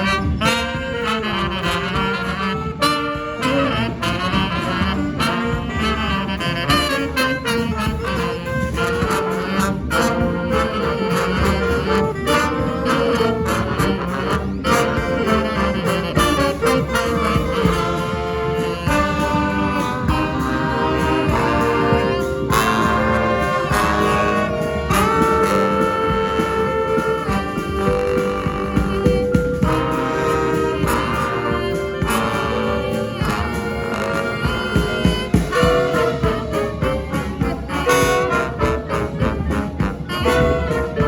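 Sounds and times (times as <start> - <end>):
brass band playing: 0.0 - 41.0
sharp drum hits: 4.0 - 41.0.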